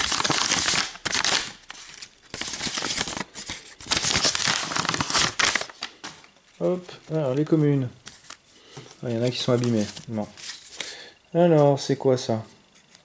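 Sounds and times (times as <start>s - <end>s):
paper envelope rustling: 0.0s - 10.8s.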